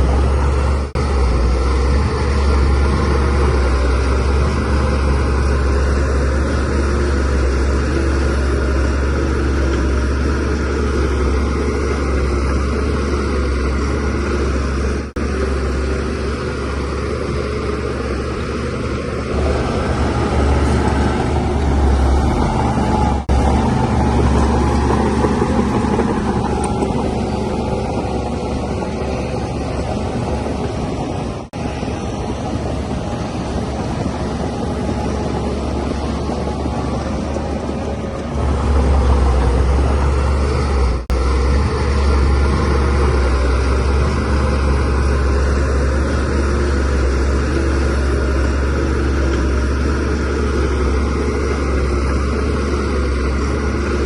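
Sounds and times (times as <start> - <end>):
diesel engine low rumble: 0.0 - 54.0.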